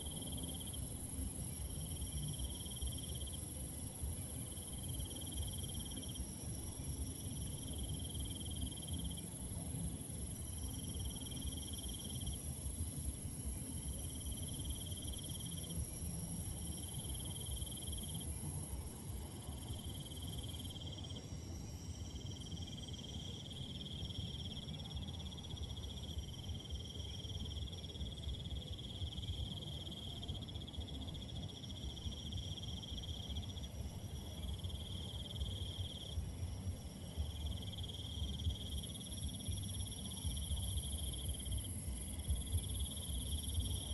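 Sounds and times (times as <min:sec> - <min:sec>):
lower insect trill: 0:00.0 - 0:43.9.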